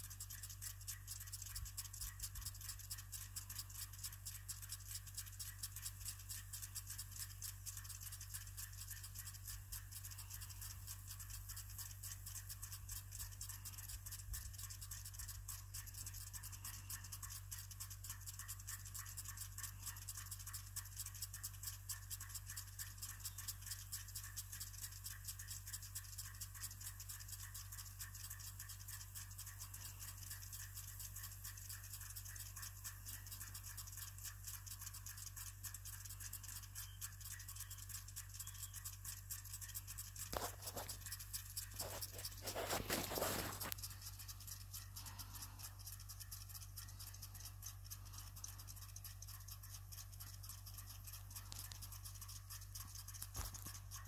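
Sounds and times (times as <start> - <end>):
sprinklers ticking and hissing: 0.0 - 54.0
steady low hum: 0.0 - 54.0.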